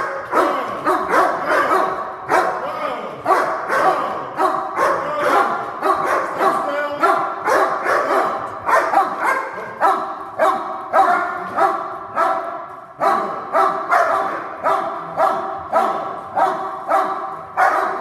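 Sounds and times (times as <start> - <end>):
dogs barking in echoing room: 0.0 - 18.0.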